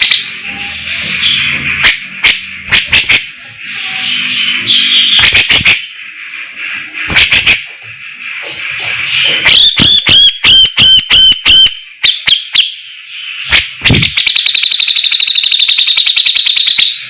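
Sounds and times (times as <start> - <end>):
bird singing harsh chatter: 0.0 - 17.0.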